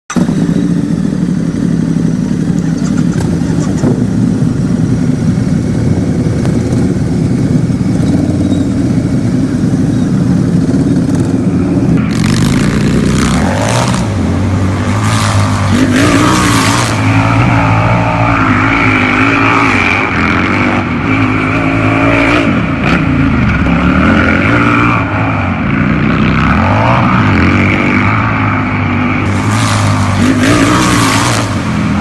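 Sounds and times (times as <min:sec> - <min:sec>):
motorcycle engine revving: 0:00.1 - 0:32.0.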